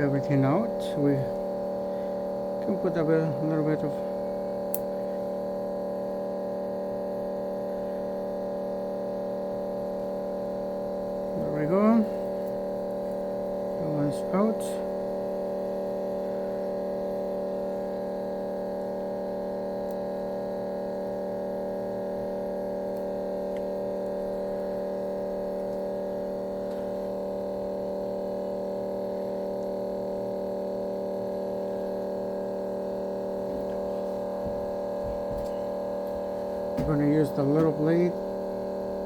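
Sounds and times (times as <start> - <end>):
electrical hum: 0.0 - 39.0.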